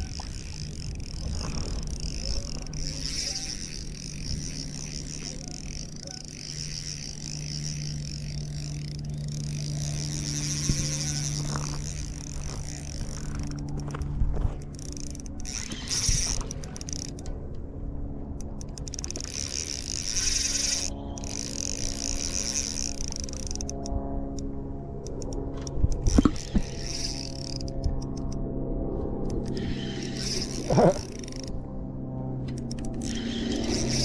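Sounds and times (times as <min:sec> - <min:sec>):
fishing reel gears whirring: 0:00.0 - 0:17.3, 0:18.2 - 0:28.4, 0:29.2 - 0:31.6, 0:32.5 - 0:34.0.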